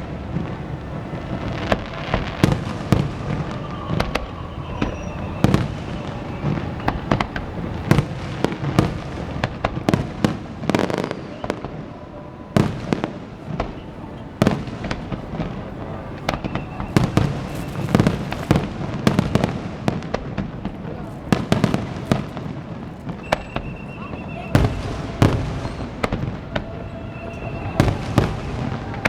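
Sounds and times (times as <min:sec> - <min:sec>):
fireworks bursting with sharp bangs: 0:00.0 - 0:29.0
low rumble of fireworks: 0:00.0 - 0:29.0.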